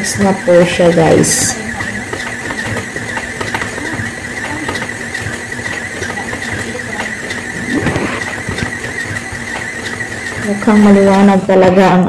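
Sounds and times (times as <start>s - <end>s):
stand mixer whining: 0.0s - 12.0s.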